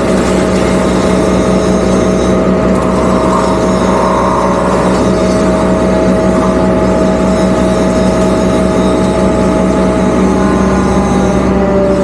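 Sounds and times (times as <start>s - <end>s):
excavator diesel engine: 0.0s - 12.0s
steady hydraulic whine: 0.0s - 12.0s.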